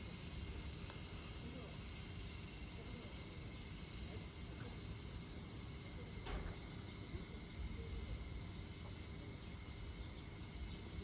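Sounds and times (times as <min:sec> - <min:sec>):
insects trilling: 0:00.0 - 0:08.8.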